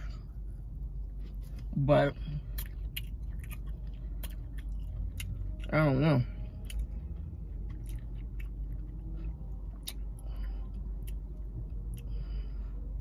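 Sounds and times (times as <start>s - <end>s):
person chewing: 0.0s - 12.5s.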